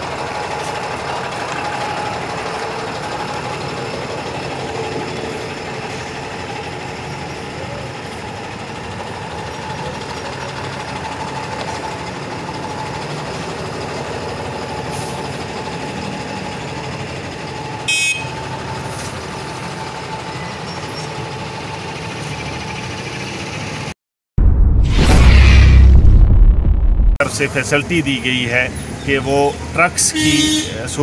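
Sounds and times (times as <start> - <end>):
street noise: 0.0 - 24.0, 27.2 - 31.0
truck engines idling: 0.0 - 24.0, 27.2 - 31.0.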